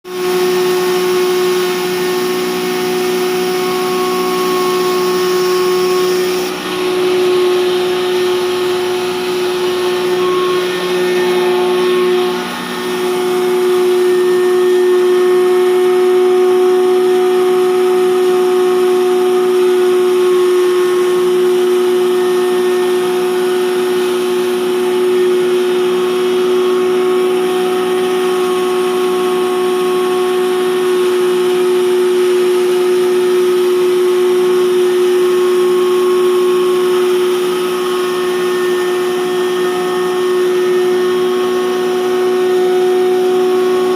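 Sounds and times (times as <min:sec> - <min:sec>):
grinder motor whine: 0:00.1 - 0:43.9.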